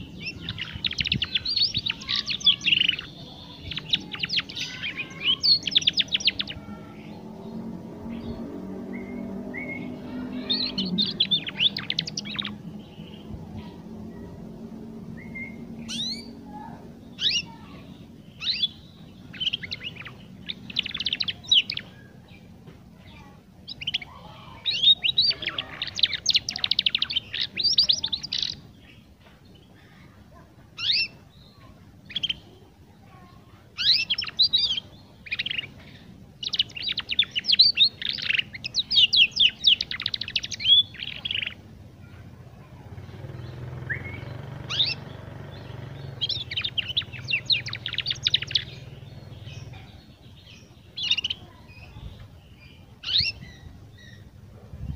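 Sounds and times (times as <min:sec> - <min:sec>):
canary twittering and trilling: 0:00.0 - 0:54.9.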